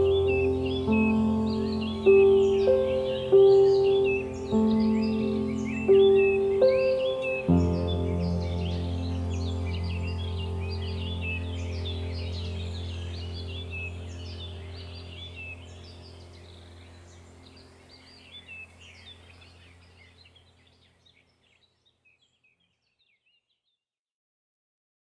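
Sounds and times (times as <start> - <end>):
low steady drone: 0.0 - 20.5
small birds chirping and singing: 0.0 - 23.8.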